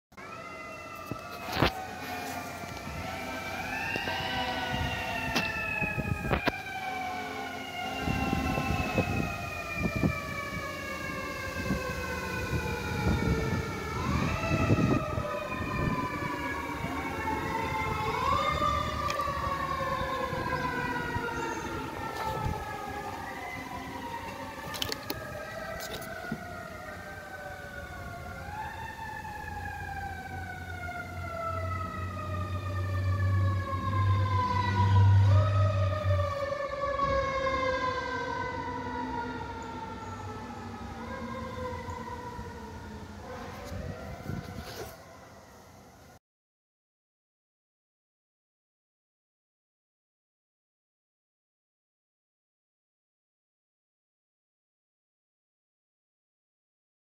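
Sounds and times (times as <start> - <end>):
fire truck sirens wailing: 0.1 - 46.2.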